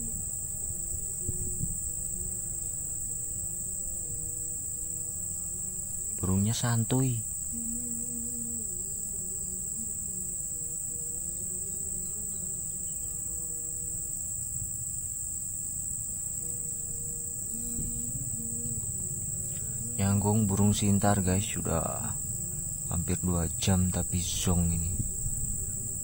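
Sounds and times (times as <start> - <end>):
insect chorus drone: 0.0 - 26.0.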